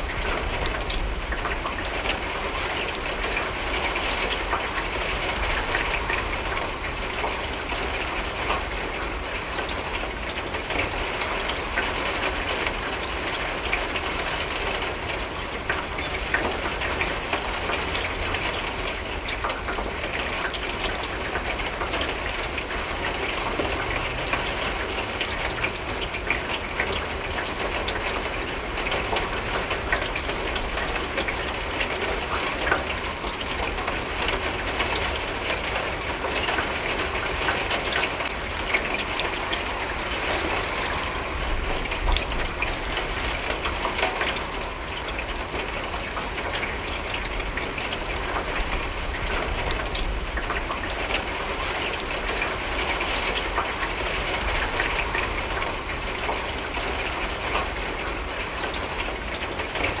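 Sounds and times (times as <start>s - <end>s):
rain on a window: 0.0s - 60.0s.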